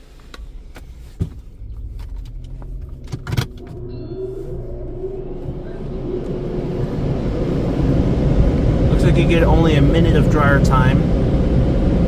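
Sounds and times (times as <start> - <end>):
car engine idling: 0.0 - 12.0
dryer blowers whining and rushing: 0.6 - 12.0.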